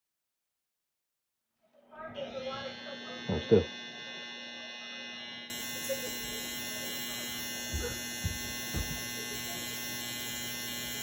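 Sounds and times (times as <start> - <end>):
electric hair clippers buzzing: 2.0 - 11.0.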